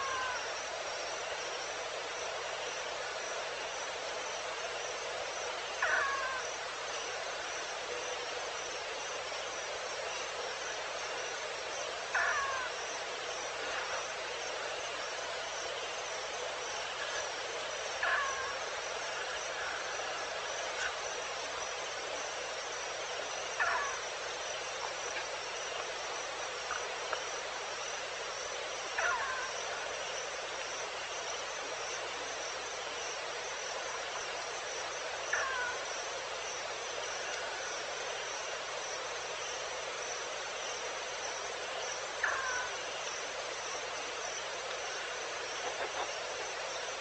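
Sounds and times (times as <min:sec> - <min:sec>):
high insect trill: 0:00.0 - 0:47.0
insect chorus hiss: 0:00.0 - 0:47.0.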